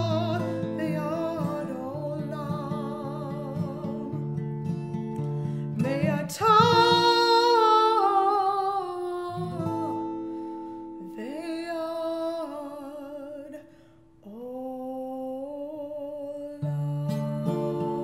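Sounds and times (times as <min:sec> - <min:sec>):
woman singing with vibrato: 0:00.0 - 0:04.4, 0:05.7 - 0:10.4, 0:11.0 - 0:18.0
acoustic guitar: 0:00.0 - 0:18.0.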